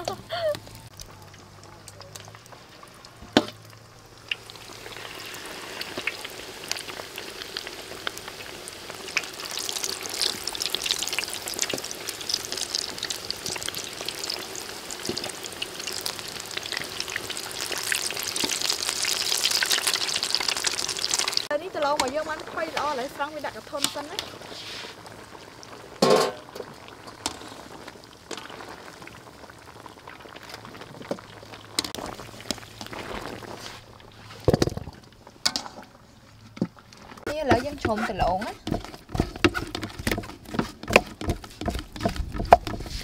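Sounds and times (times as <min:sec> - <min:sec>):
chicken deep-frying in oil: 0:00.0 - 0:43.0.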